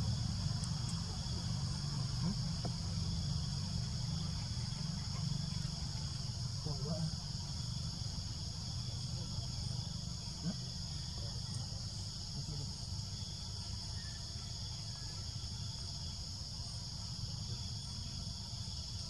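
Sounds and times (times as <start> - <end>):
forest insects droning: 0.0 - 19.0.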